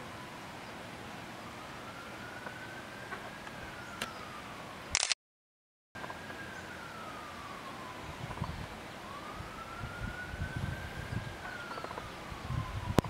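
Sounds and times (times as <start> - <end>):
siren wailing: 1.3 - 4.9, 6.0 - 13.0.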